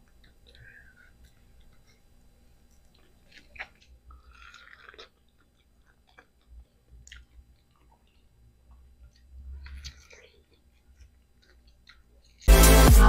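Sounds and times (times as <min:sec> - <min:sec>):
person chewing: 0:00.0 - 0:12.5.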